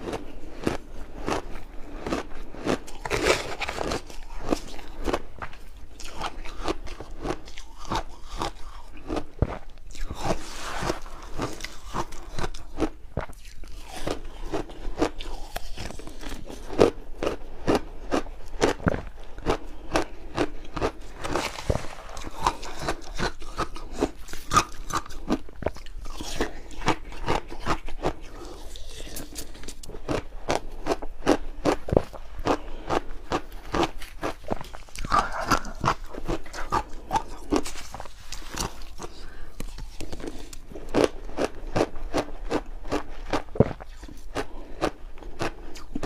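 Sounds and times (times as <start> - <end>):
chewing crunchy shaved ice: 0.0 - 46.0.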